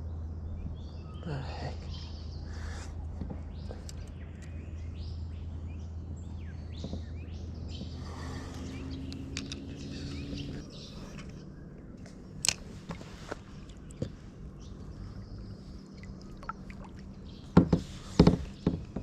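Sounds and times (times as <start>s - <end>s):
low steady hum: 0.0s - 19.0s
wild birds chirping: 0.0s - 19.0s.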